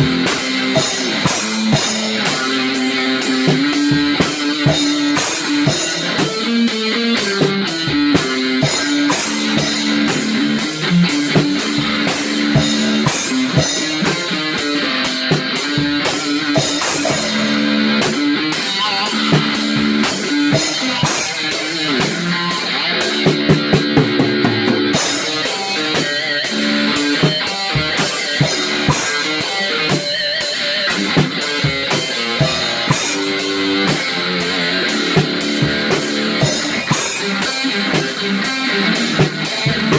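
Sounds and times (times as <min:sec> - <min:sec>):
drum kit beat: 0:00.0 - 0:39.9
guitar music: 0:00.0 - 0:39.9.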